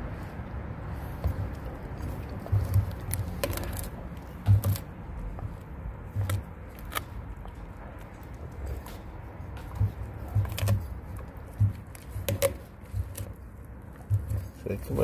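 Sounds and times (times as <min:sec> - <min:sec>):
dog chewing with wet crunches: 0:00.0 - 0:15.0.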